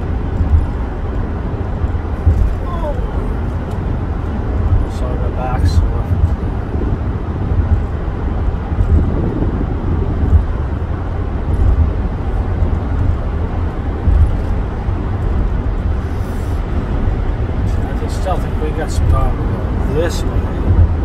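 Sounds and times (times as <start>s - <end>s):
road and engine noise in vehicle: 0.0s - 21.0s.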